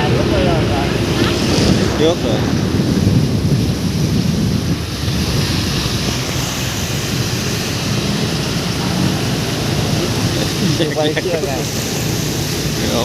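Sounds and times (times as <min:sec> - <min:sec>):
hiss of rain and water: 0:00.0 - 0:13.0
vehicle engine running: 0:00.0 - 0:13.0
wind buffeting microphone: 0:00.0 - 0:13.0.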